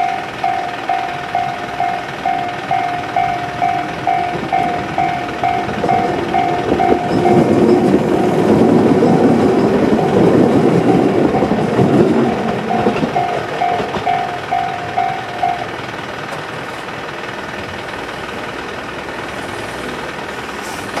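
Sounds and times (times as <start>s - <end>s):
level-crossing bell ringing: 0.0s - 19.3s
electric train rumble: 0.0s - 21.0s.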